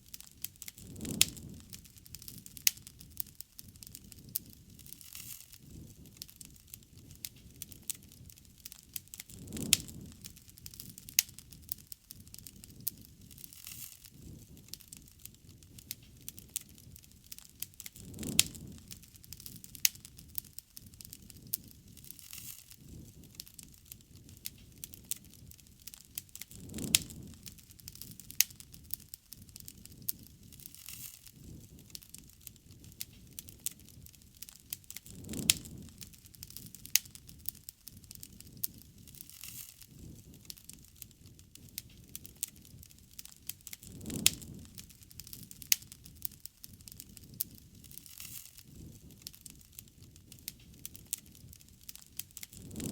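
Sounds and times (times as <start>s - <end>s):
campfire crackling and popping: 0.0s - 52.9s
low rush of flame: 0.0s - 52.9s.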